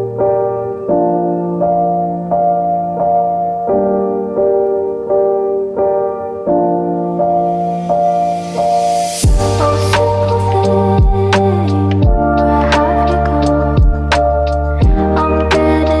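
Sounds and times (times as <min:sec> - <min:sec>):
piano chords in steady rhythm: 0:00.0 - 0:16.0.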